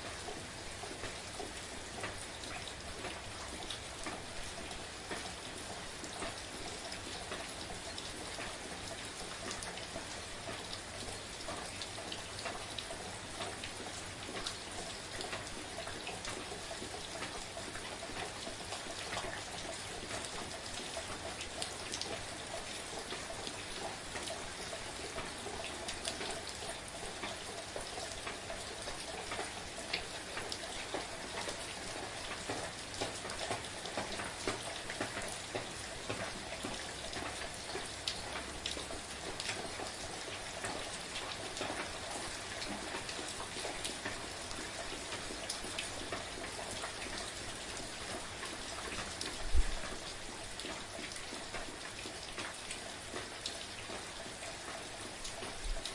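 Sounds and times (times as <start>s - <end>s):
gentle rain falling: 0.0s - 55.9s
raindrops ticking on surface: 0.0s - 55.9s.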